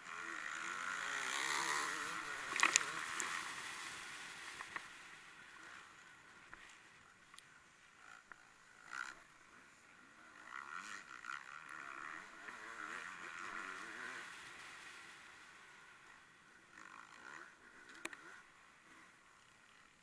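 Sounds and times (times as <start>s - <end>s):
faint racing engines revving: 0.0s - 20.0s.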